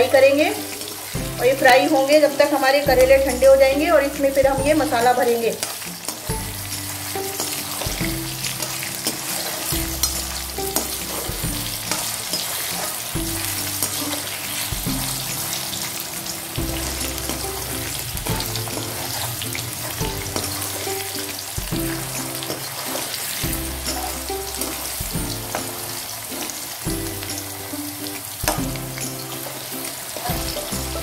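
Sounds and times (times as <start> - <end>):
potatoes sizzling in hot oil: 0.0 - 31.0.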